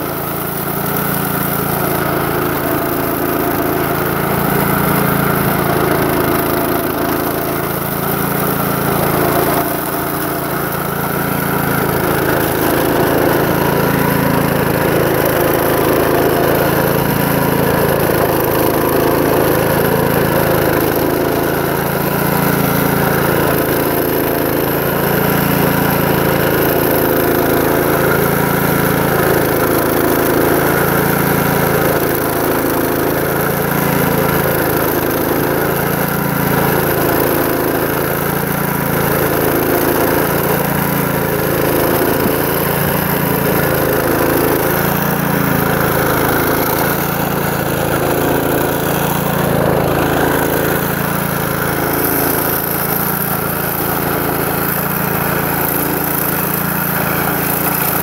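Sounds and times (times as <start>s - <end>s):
rail saw disc grinding steel: 0.0s - 58.0s.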